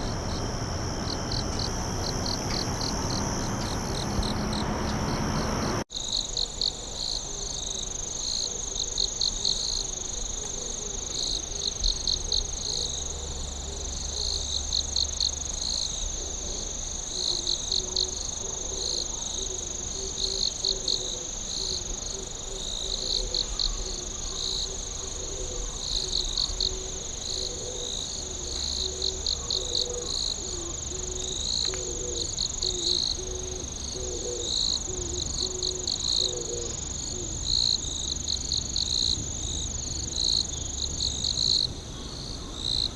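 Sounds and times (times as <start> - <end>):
crickets chirping: 0.0 - 42.9
faint low wavering insect call: 0.0 - 42.9
steady high-pitched insect trill: 0.0 - 42.9.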